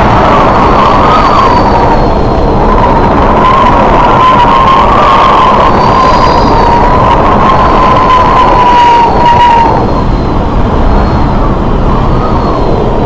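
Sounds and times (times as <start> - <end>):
boat running through rough water: 0.0 - 13.0
high whine: 0.0 - 13.0
wind on microphone: 0.0 - 13.0.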